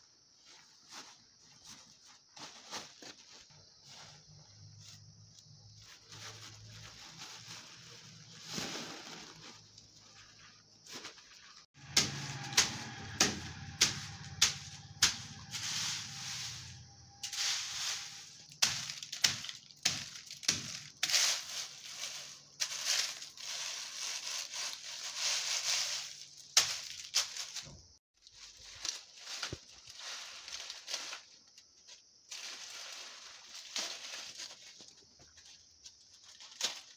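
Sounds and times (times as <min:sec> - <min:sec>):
plastic bag rustling: 0:00.4 - 0:36.9.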